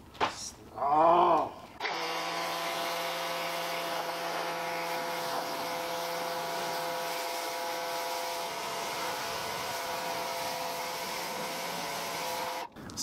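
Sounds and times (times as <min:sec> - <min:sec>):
pressure washer motor hum: 0:01.8 - 0:12.7
water jet hissing on car: 0:01.8 - 0:12.7.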